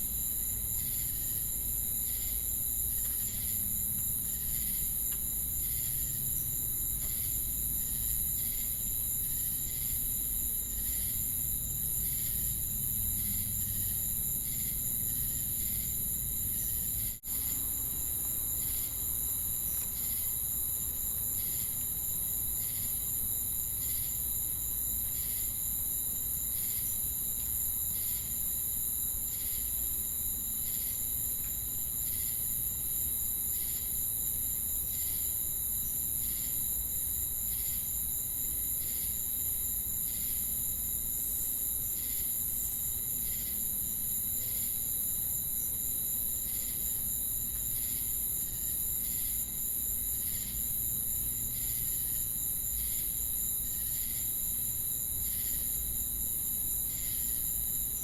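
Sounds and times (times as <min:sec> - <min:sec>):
cricket rhythmic chirp: 0:00.0 - 0:58.0.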